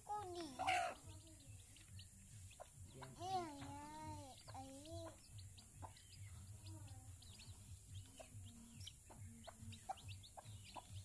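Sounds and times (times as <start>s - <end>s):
chickens clucking: 0.0s - 11.0s
chicks peeping: 0.0s - 11.0s.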